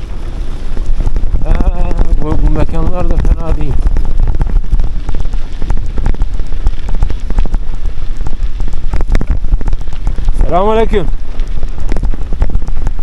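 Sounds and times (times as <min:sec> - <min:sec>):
camera rattling on a bicycle: 0:00.0 - 0:13.0
low rumble of bicycle on rough track: 0:00.0 - 0:13.0.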